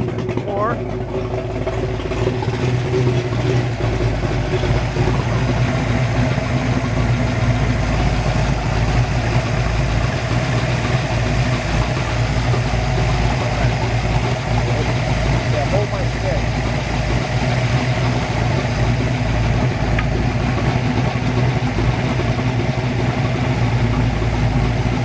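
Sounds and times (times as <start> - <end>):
boat engine idling: 0.0 - 25.0.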